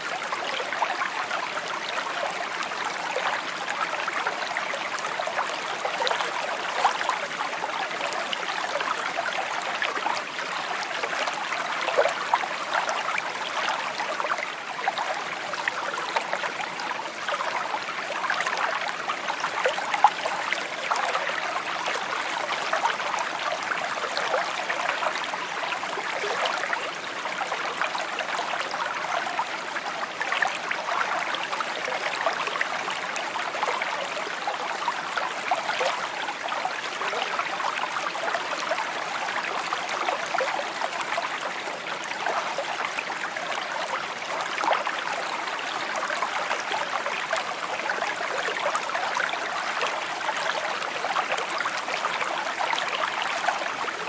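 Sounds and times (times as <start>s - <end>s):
stream babbling over stones: 0.0s - 54.0s.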